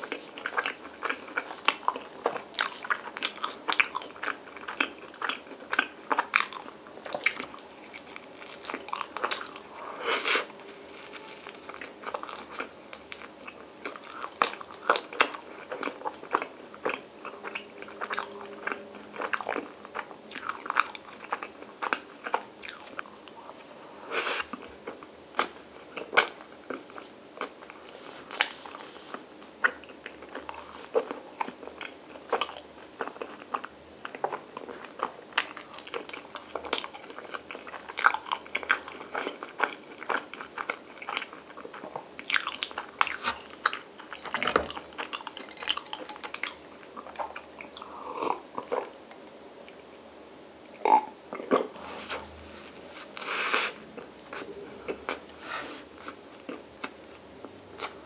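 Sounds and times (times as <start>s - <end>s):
person chewing with mouth clicks: 0.0s - 23.7s, 24.4s - 49.9s, 53.2s - 55.3s, 55.9s - 57.2s, 57.8s - 58.0s.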